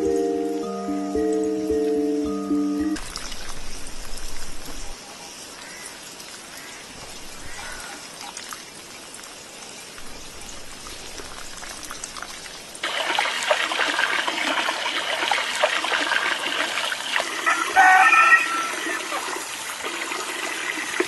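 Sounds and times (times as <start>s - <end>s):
water splashing and trickling: 0.0s - 21.0s.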